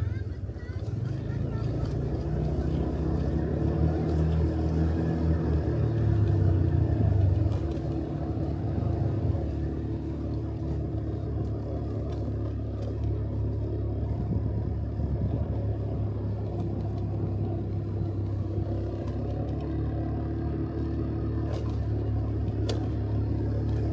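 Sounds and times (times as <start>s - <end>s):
motorcycle engine running: 0.0s - 23.9s
road and wind noise: 0.0s - 23.9s.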